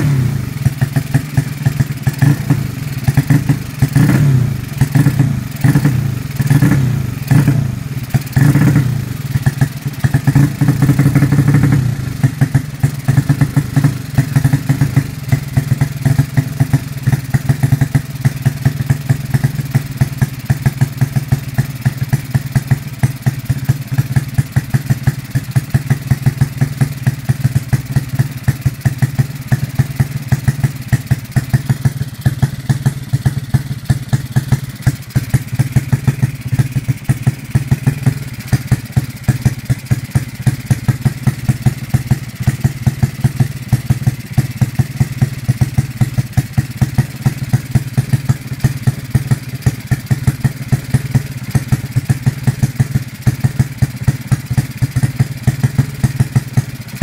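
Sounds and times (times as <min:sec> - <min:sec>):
single-cylinder engine idling: 0:00.0 - 0:57.0.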